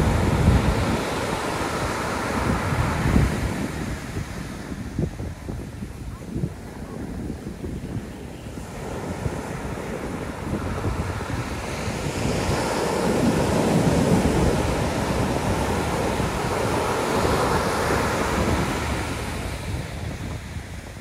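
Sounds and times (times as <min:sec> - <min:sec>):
surf breaking on sandy beach: 0:00.0 - 0:21.0.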